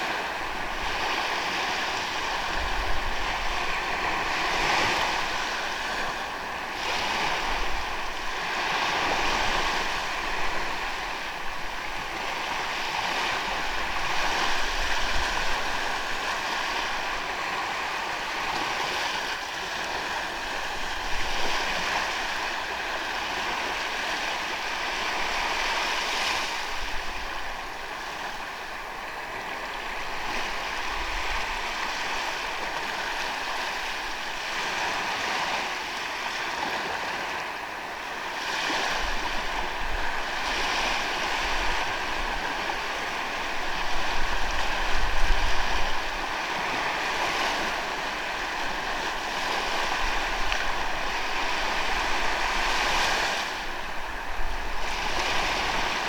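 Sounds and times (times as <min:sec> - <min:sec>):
ocean waves breaking on beach: 0:00.0 - 0:56.0
wind rumble on microphone: 0:00.0 - 0:56.0.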